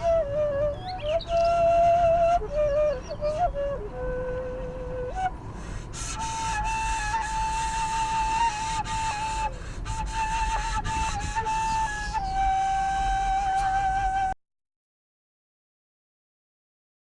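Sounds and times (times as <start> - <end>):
solo flute melody: 0.0 - 14.4.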